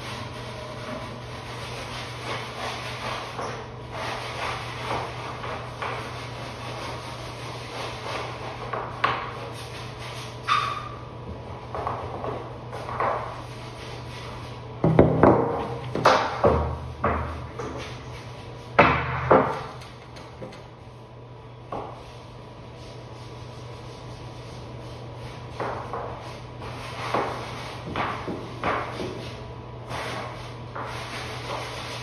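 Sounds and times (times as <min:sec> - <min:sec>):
scrub brush scrubbing tile floor: 0:00.0 - 0:18.8, 0:21.7 - 0:32.0
scrapes and knocks: 0:00.0 - 0:20.7, 0:24.6 - 0:32.0.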